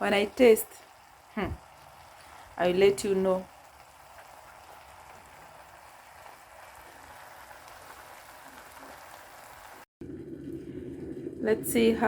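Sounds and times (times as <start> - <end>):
stew simmering with crackle and fizz: 0.0 - 12.0.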